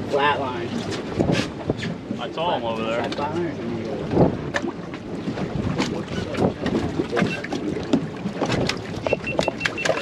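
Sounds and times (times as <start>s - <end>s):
sea noise: 0.0s - 10.0s
wind: 0.0s - 10.0s.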